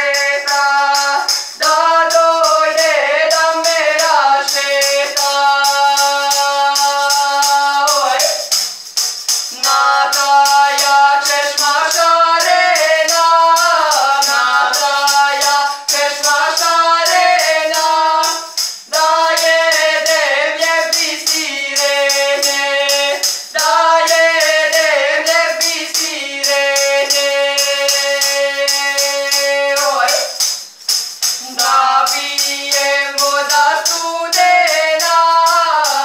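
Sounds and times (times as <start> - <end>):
woman singing folk song: 0.0 - 8.5, 9.5 - 30.4, 31.4 - 36.0
tambourine beat: 0.0 - 36.0.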